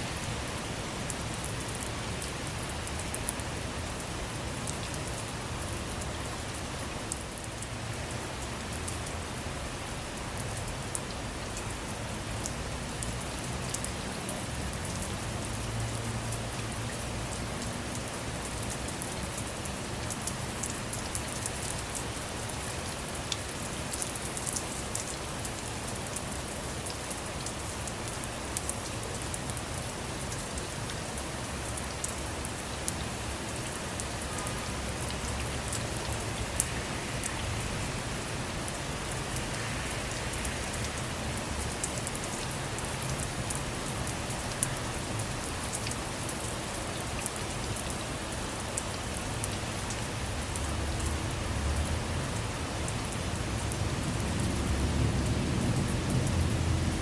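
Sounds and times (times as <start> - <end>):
rain on a car: 0.0 - 57.0.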